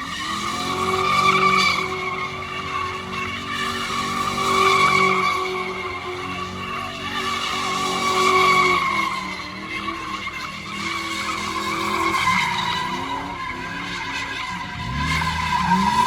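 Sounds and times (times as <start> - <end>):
car engine revving: 0.0 - 16.0
car tyres squealing: 0.0 - 16.0.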